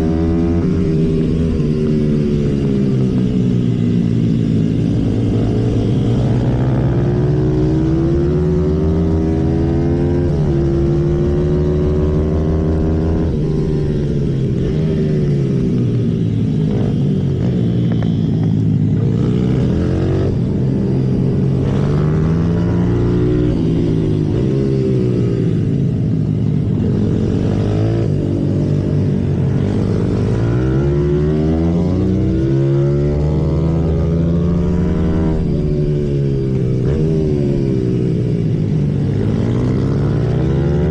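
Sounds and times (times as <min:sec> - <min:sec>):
pit bike engine at speed: 0:00.0 - 0:40.9.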